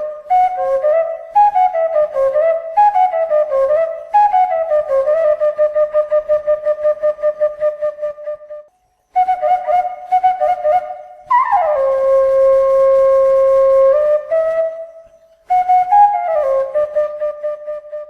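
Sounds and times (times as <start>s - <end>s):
flute-like solo melody: 0.0s - 18.0s.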